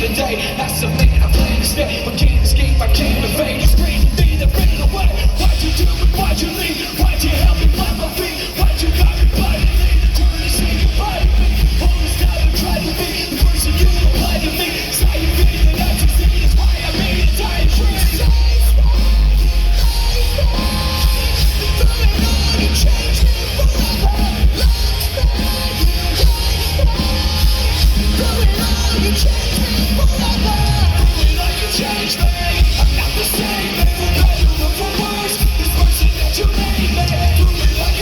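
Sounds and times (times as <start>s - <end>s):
bass guitar: 0.0s - 38.0s
distorted guitars: 0.0s - 38.0s
drums: 0.0s - 38.0s
person singing: 0.0s - 38.0s.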